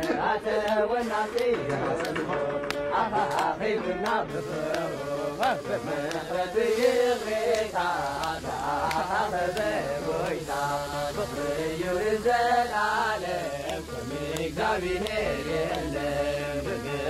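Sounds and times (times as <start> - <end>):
person chanting long notes: 0.9 - 17.0.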